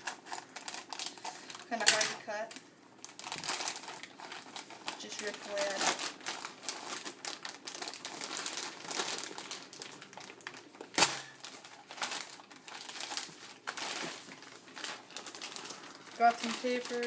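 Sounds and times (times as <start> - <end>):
packaging tearing and crinkling: 0.0 - 2.2, 3.0 - 17.0.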